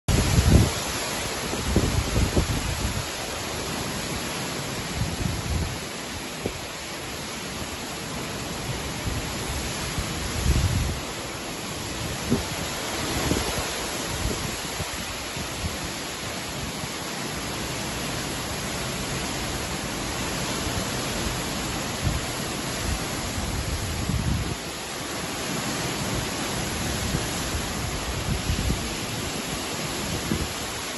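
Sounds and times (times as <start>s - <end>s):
heavy rain hissing: 0.1s - 30.9s
wind gusts buffeting microphone: 0.1s - 30.9s.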